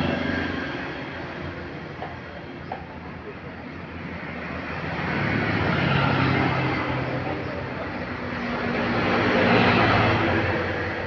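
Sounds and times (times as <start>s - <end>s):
heavy vehicles passing: 0.0s - 11.0s.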